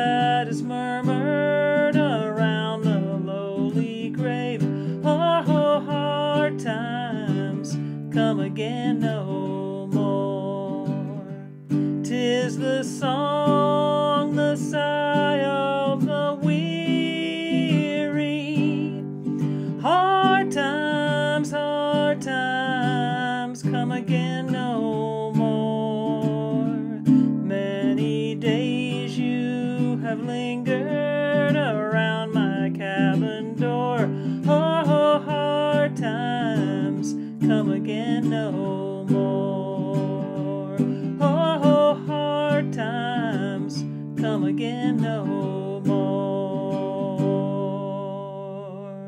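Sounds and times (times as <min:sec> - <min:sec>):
wordless singing: 0:00.0 - 0:11.4, 0:12.0 - 0:49.0
ukulele strummed and picked: 0:00.0 - 0:49.0.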